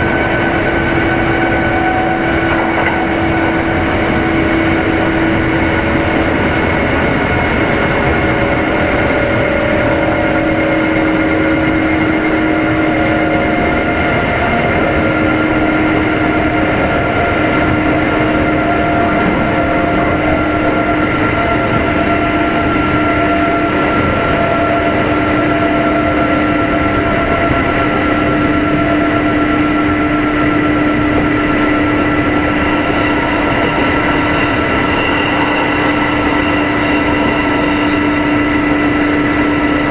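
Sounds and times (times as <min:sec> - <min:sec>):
traction motor whine: 0:00.0 - 0:39.9
wheels rumbling on rail: 0:00.0 - 0:39.9.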